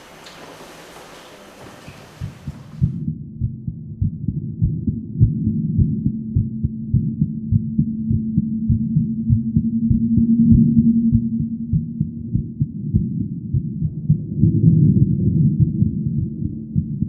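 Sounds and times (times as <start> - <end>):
heartbeat thumps: 0.0 - 17.0
steady low hum: 0.0 - 17.0.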